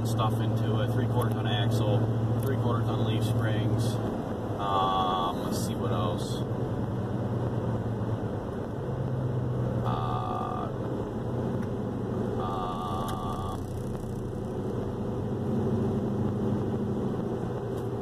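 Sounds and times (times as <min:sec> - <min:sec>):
engine and road noise in cab: 0:00.0 - 0:18.0.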